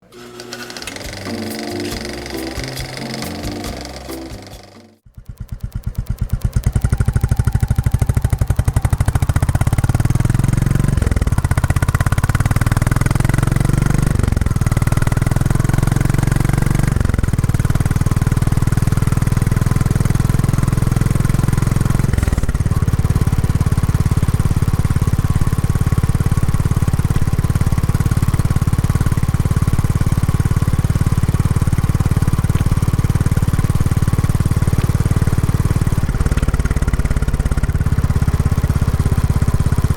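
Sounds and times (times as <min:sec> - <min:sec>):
single-cylinder motorcycle engine running: 0:00.1 - 0:39.9.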